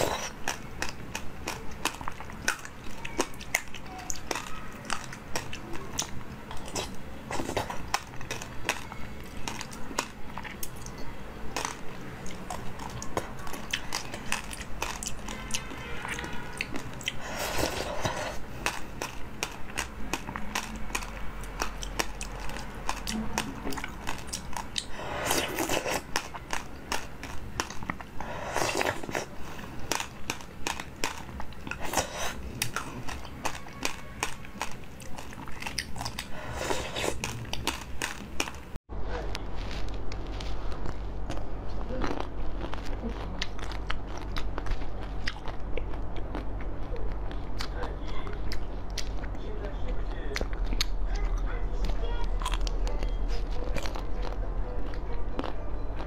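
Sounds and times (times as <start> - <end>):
crunching and wet chewing: 0.0 - 56.0.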